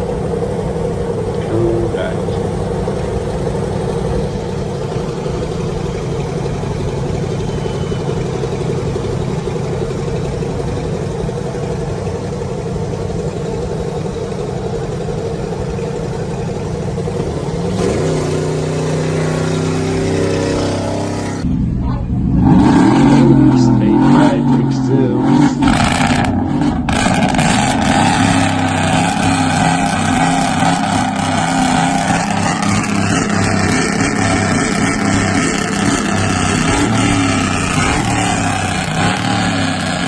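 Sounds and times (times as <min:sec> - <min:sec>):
truck engine with loud exhaust revving: 0:00.0 - 0:40.0.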